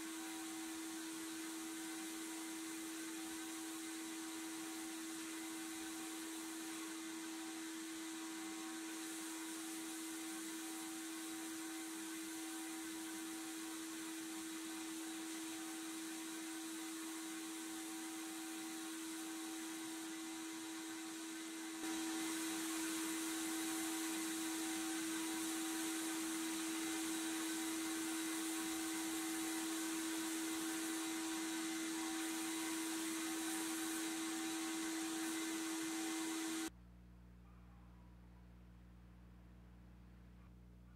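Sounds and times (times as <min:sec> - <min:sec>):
sandblaster nozzle hissing: 0:00.0 - 0:36.7
steady hum: 0:00.0 - 0:37.3.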